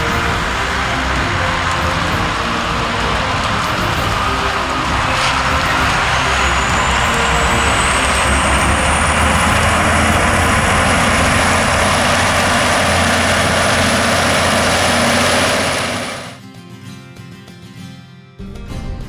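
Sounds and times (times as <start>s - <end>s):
thin high whine: 0.0s - 16.4s
tractor diesel engine under load: 0.0s - 16.4s.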